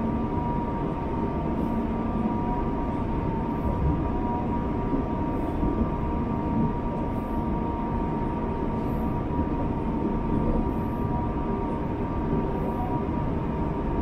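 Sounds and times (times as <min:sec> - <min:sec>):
faint high hum: 0:00.0 - 0:14.0
train low rumble: 0:00.0 - 0:14.0.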